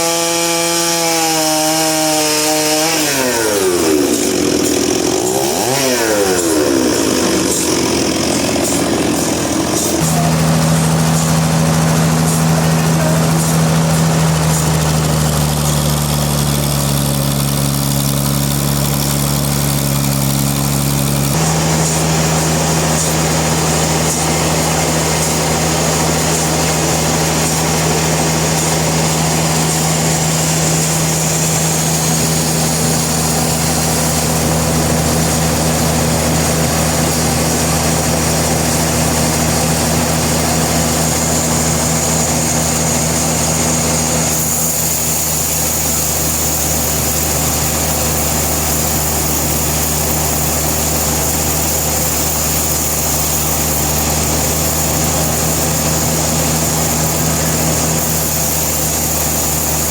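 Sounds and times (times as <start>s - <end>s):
sawmill engine droning: 0.0s - 59.9s.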